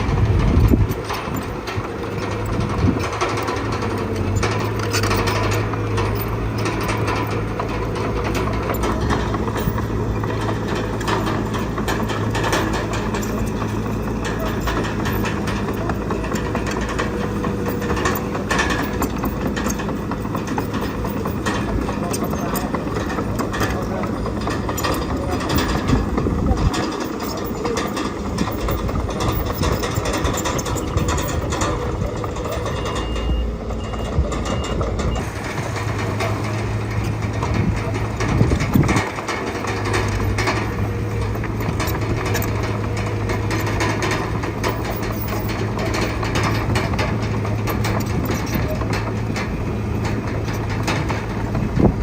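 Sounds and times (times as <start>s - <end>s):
heavy diesel machinery running: 0.0s - 52.0s
small knocks and rattles: 0.0s - 52.0s.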